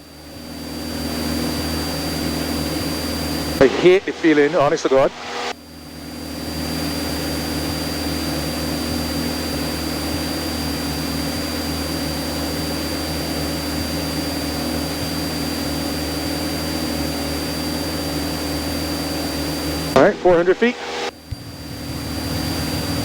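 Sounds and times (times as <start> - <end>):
aircraft engine and propeller drone: 0.0 - 23.0
high whine: 0.1 - 23.0.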